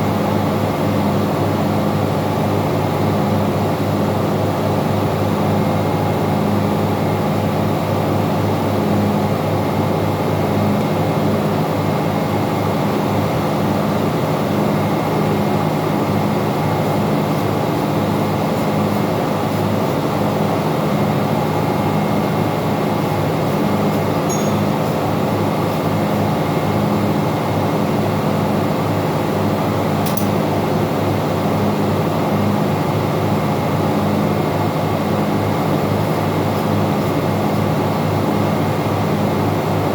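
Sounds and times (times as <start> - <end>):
engine-room machinery drone: 0.0 - 39.9.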